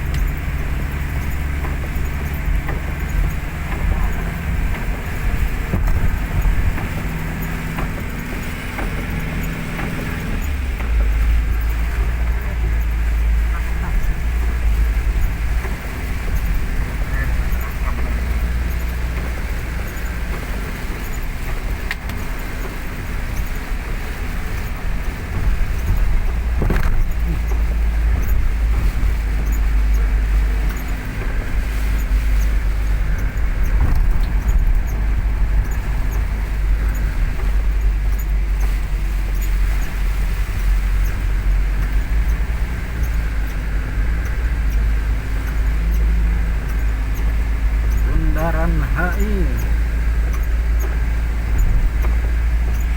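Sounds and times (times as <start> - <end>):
rain and wet tyres hissing: 0.0 - 52.9
road rumble: 0.0 - 52.9.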